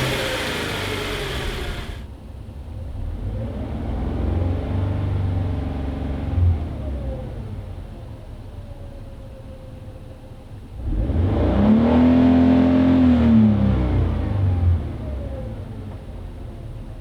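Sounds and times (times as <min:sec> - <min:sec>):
car engine idling and revving: 0:00.0 - 0:07.9, 0:10.6 - 0:16.8.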